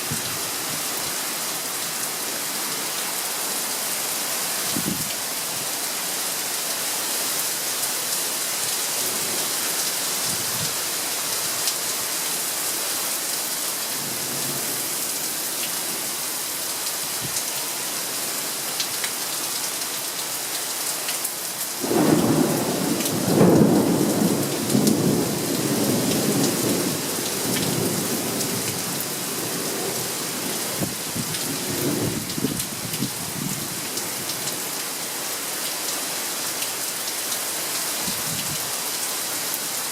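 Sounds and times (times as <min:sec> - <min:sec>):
heavy rain hissing: 0:00.0 - 0:19.6, 0:20.2 - 0:39.9.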